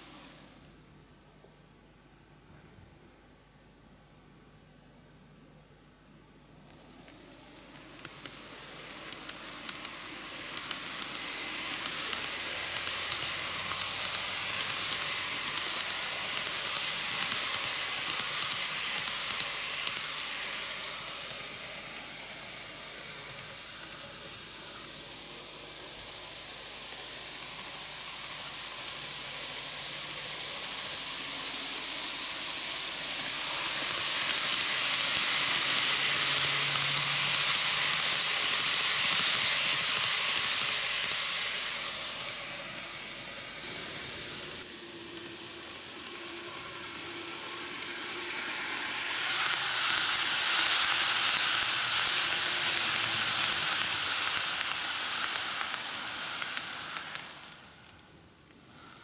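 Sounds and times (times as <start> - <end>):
model train wheels rattling: 6.6 - 59.0.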